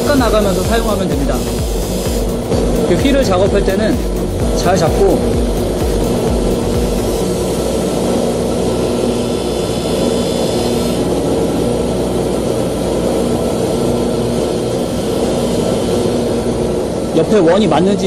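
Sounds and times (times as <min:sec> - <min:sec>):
grinding hiss: 0:00.0 - 0:18.0
polishing motor hum: 0:00.0 - 0:18.0.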